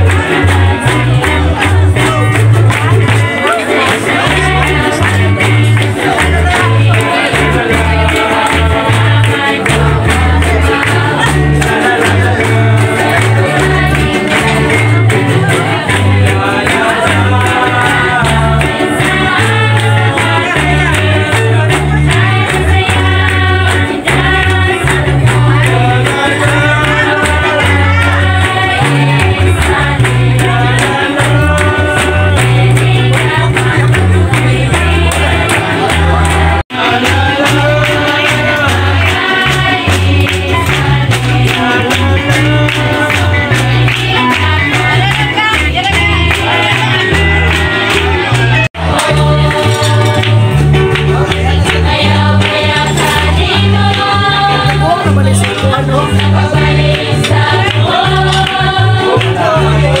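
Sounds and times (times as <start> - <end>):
bass line: 0.0 - 60.0
group of voices singing: 0.0 - 60.0.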